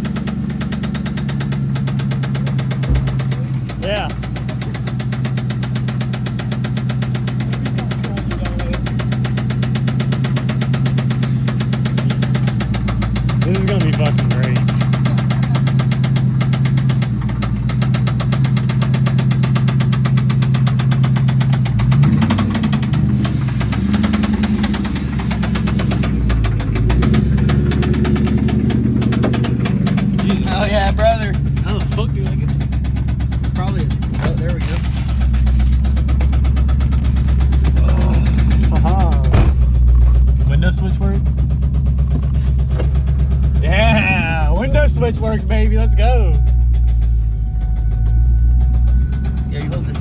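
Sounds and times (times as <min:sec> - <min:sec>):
car engine idling: 0:00.0 - 0:50.0
fast even engine knocking: 0:00.0 - 0:50.0.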